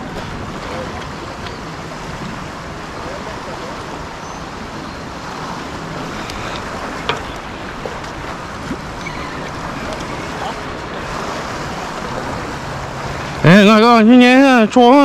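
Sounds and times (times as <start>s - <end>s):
wind buffeting microphone: 0.0s - 13.6s.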